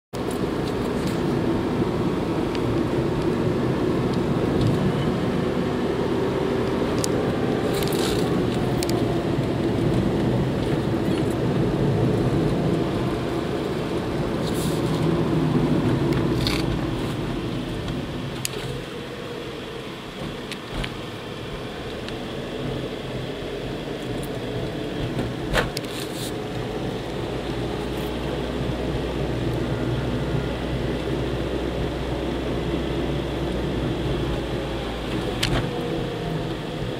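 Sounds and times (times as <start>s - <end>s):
car engine and road hum: 0.1s - 36.9s.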